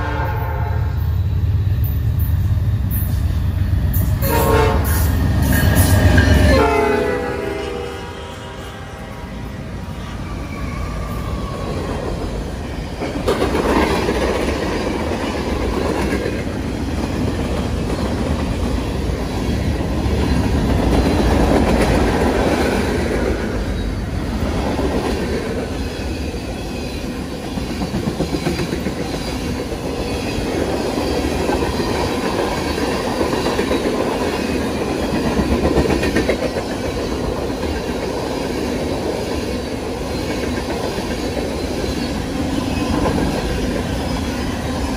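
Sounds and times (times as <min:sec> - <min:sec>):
freight train rumbling by: 0:00.0 - 0:44.9.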